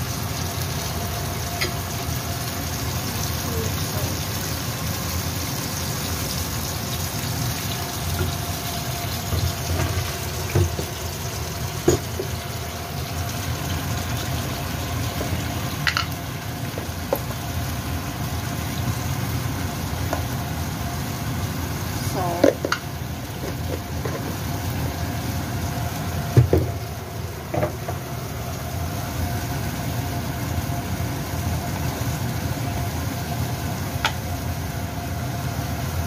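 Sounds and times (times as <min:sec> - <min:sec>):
sauce sizzling and bubbling in a wok: 0:00.0 - 0:36.0.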